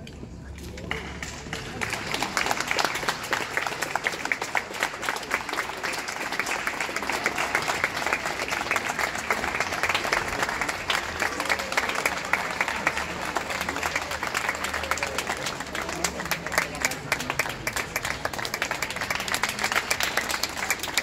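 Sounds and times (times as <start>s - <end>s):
crowd applauding: 0.6s - 21.0s.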